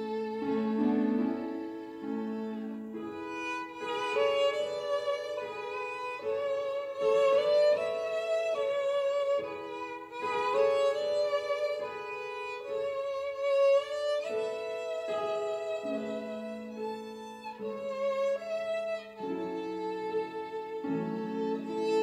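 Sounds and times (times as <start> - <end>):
solo violin melody: 0.0 - 22.0.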